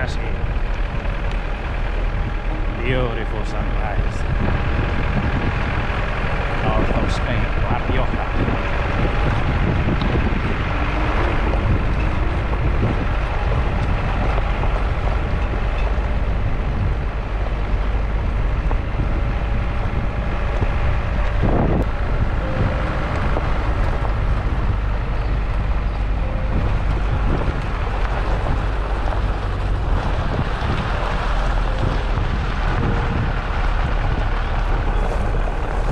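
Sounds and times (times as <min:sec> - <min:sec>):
wind noise on microphone: 0:00.0 - 0:35.9.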